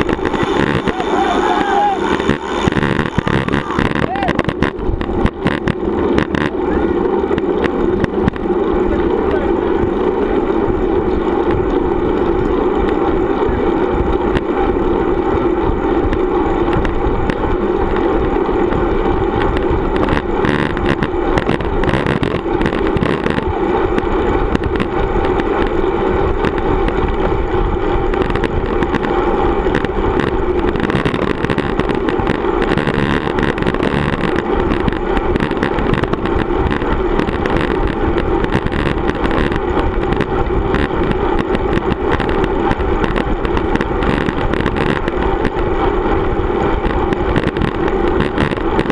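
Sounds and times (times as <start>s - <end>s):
road noise: 0.0s - 48.9s.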